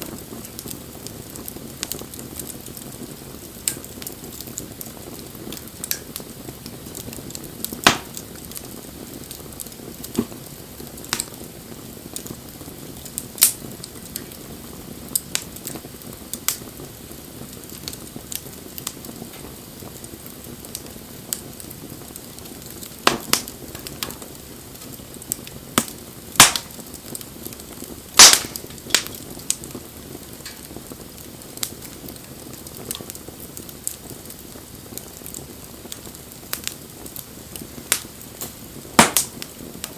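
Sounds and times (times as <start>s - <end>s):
campfire hissing and crackling: 0.0s - 39.9s.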